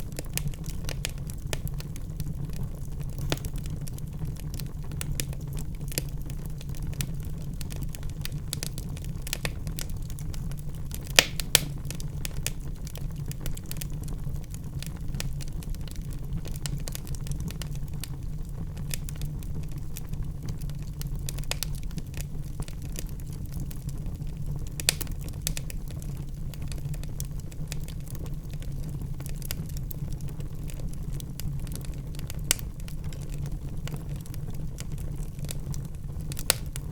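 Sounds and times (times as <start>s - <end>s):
burning logs crackling and popping: 0.0s - 36.9s
low rumble of flames: 0.0s - 36.9s.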